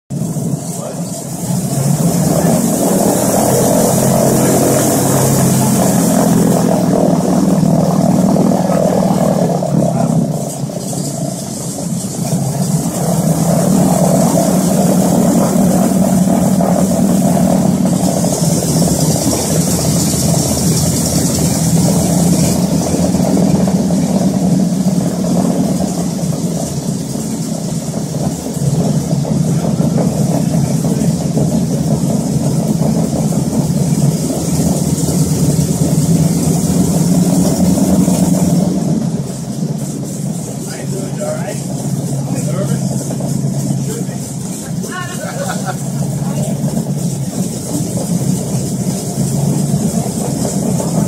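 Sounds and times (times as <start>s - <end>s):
aircraft engine drone: 0.1s - 51.0s.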